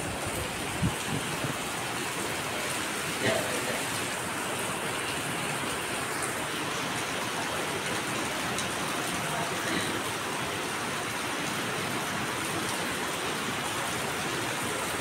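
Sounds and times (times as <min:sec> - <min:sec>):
steady rain on wet paving: 0:00.0 - 0:15.0.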